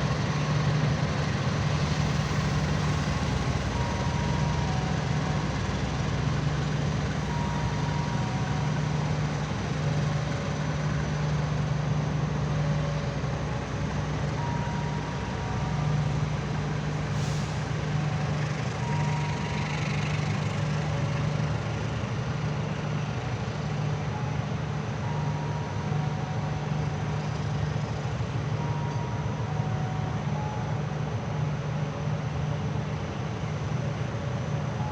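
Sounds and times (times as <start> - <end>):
diesel locomotive engine idling: 0.0 - 34.9.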